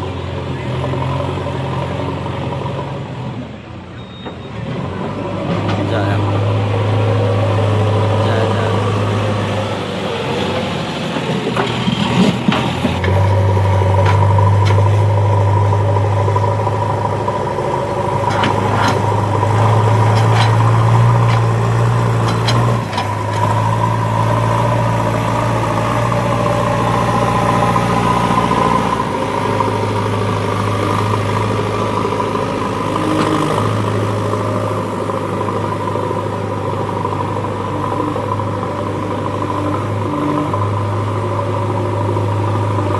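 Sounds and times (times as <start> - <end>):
heavy vehicle engine running: 0.0 - 42.9.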